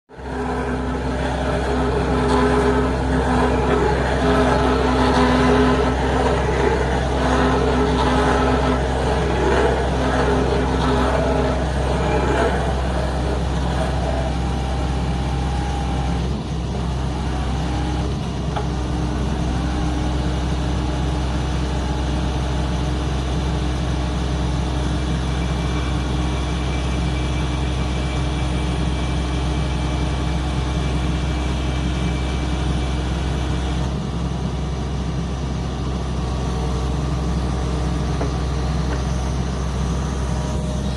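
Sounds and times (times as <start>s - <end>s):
excavator engine running: 0.1s - 40.9s.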